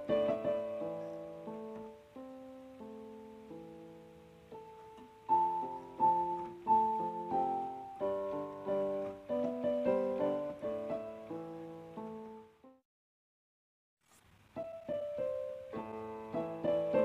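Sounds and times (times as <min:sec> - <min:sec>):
slow piano music: 0:00.0 - 0:12.8, 0:14.6 - 0:17.0.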